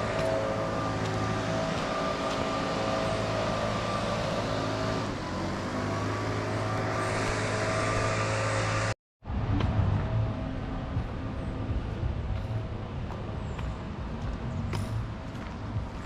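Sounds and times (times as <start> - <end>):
rushing noise: 0.0 - 16.0
vehicle engine drone: 0.0 - 16.0.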